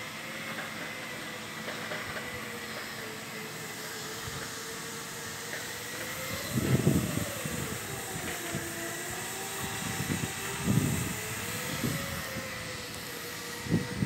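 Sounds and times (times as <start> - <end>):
machine hum wavering in pitch: 0.0 - 14.0
steady hiss: 0.0 - 14.0.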